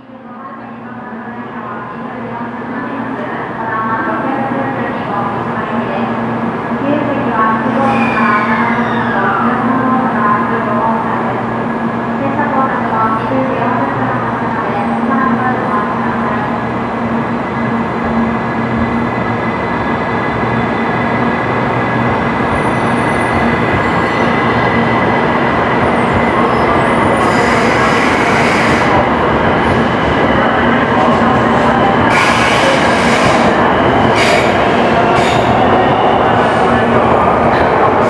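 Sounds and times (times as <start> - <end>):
train rumble and rail noise: 0.0 - 38.0.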